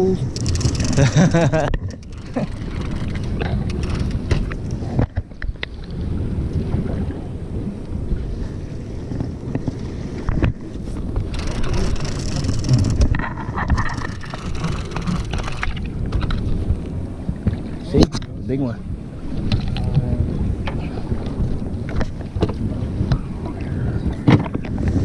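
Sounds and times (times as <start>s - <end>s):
water against boat hull: 0.0s - 25.0s
wind buffeting microphone: 0.0s - 25.0s.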